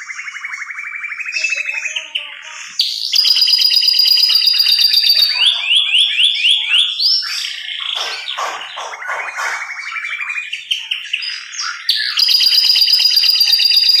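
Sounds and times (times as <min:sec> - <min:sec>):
canary singing trills: 0:00.0 - 0:14.0.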